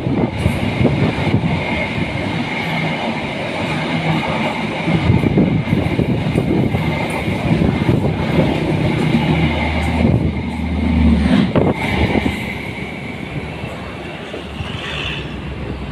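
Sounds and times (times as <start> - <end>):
train wheels clattering on rails: 0.0 - 15.9.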